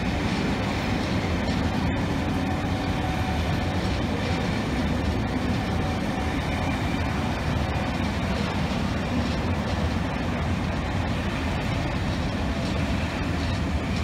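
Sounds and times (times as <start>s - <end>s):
train coaches rumbling on rails: 0.0s - 14.0s.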